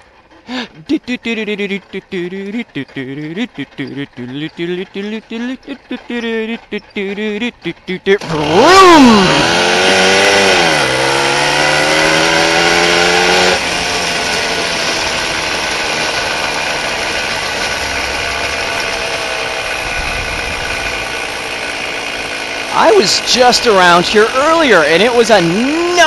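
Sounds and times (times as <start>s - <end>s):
moped engine running: 0.0s - 26.0s.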